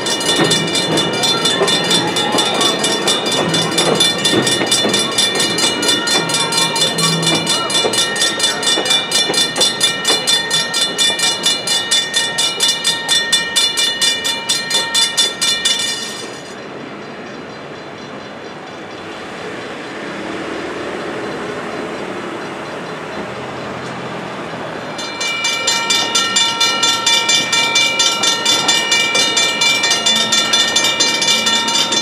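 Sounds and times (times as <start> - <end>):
crossing warning bell ringing: 0.0 - 32.0
passing train rumble: 0.0 - 32.0.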